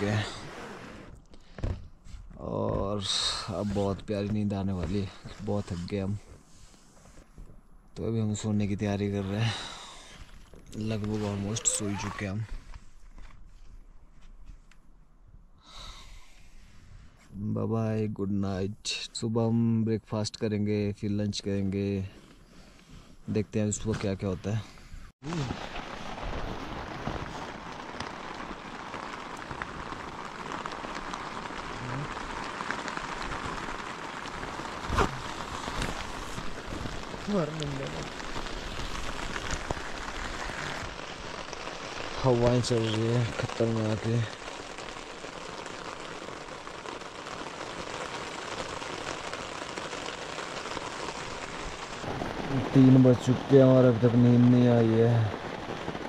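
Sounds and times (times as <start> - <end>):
rain falling on a tent: 0.0 - 14.7, 25.2 - 56.0.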